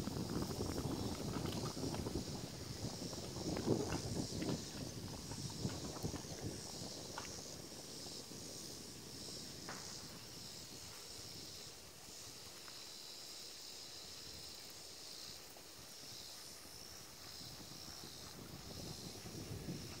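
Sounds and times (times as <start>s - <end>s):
wind rumble on microphone: 0.0s - 12.6s, 16.2s - 20.0s
high-pitched insect chorus: 0.0s - 20.0s.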